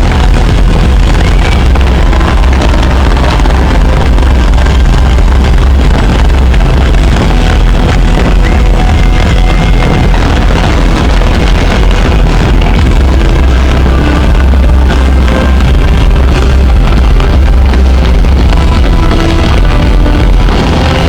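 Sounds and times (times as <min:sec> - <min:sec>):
fireworks cracking: 0:00.0 - 0:21.0
loud music over sound system: 0:00.0 - 0:21.0.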